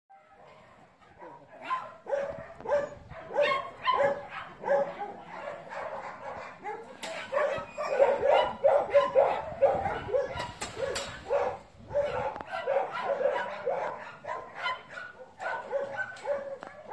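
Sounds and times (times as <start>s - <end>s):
small dog barking: 0.3s - 16.9s.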